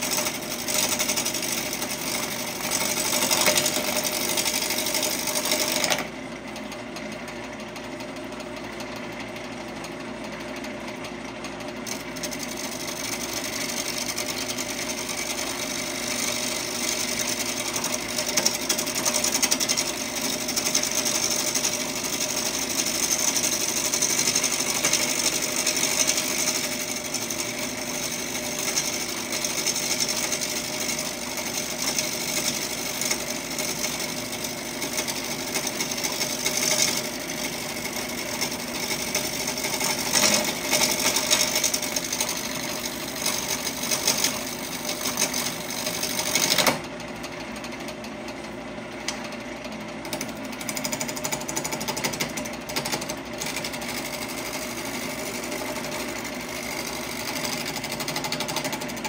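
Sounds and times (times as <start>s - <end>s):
lathe motor hum: 0.0s - 59.0s.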